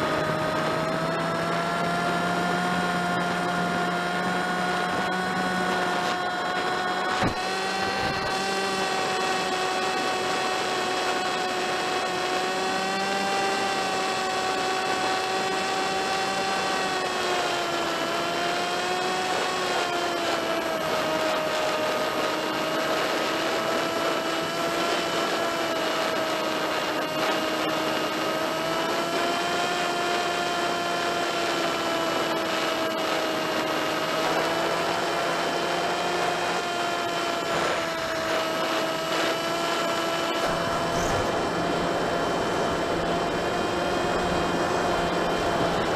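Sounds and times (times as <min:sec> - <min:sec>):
model plane motor whining: 0:00.0 - 0:45.9.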